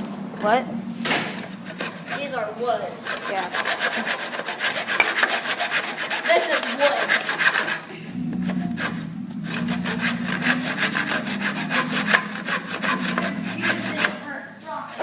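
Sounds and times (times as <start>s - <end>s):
low wavering hum: 0.0s - 4.9s, 7.6s - 14.8s
hand saw cutting wood: 1.1s - 15.0s.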